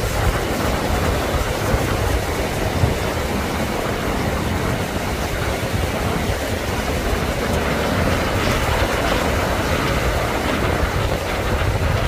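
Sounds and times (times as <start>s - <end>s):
breaking surf: 0.0s - 12.0s
wind buffeting microphone: 0.0s - 12.0s.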